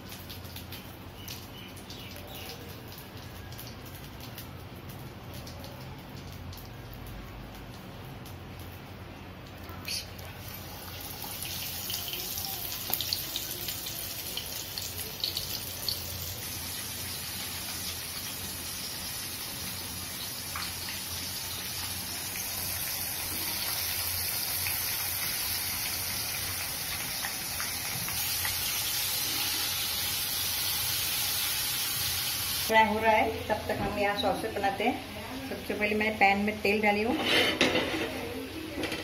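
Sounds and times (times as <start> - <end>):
chicken deep-frying in oil: 0.0 - 39.0.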